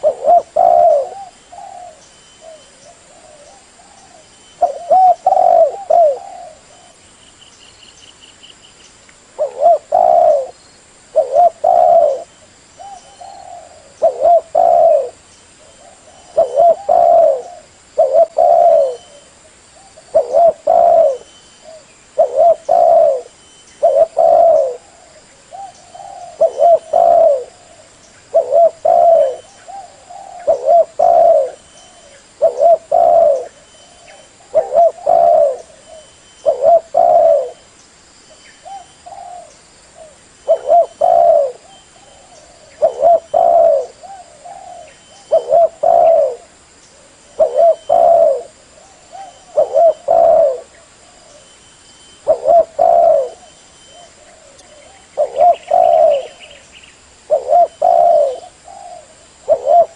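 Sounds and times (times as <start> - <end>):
dove cooing: 0.0 - 7.0, 9.4 - 37.7, 38.6 - 59.9.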